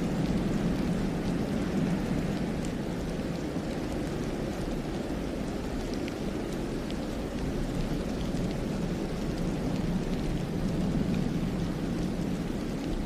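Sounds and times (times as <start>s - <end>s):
wind through pine forest: 0.0s - 13.0s.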